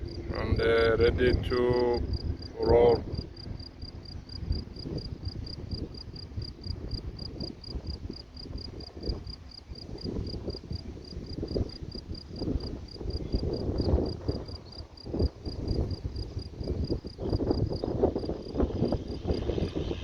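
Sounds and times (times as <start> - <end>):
cricket chirping: 0.0 - 20.0
low uneven rumble: 0.0 - 20.0.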